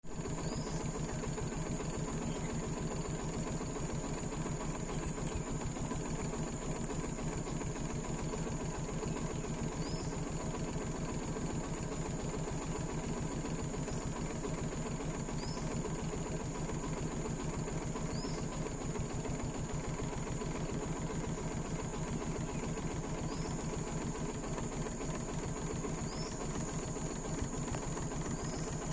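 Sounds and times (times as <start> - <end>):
rapidly pulsing low hum: 0.1 - 10.8, 13.1 - 28.9.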